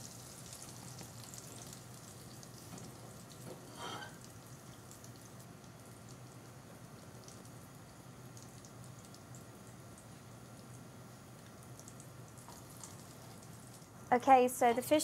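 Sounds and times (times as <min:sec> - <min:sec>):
fishcakes sizzling in oil: 0:00.0 - 0:15.0.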